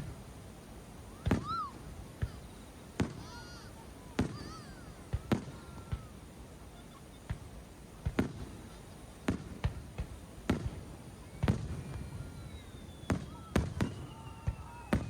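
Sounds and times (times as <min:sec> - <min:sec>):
faint fireworks whistles: 0:01.0 - 0:15.0
fireworks booming: 0:01.1 - 0:06.2, 0:07.1 - 0:15.0.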